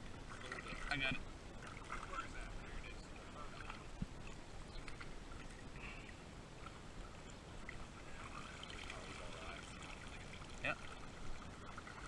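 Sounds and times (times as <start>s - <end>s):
creek water sloshing: 0.0s - 12.0s.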